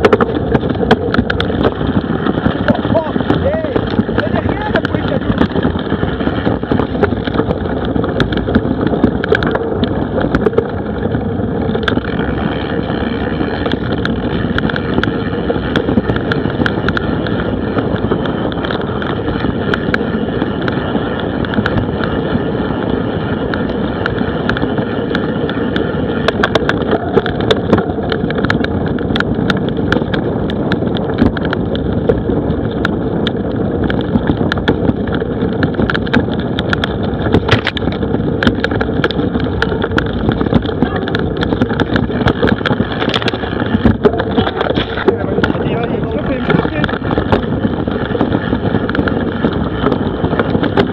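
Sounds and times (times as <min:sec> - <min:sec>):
bike knocks and rattles: 0:00.0 - 0:50.9
bike rolling rumble: 0:00.0 - 0:50.9.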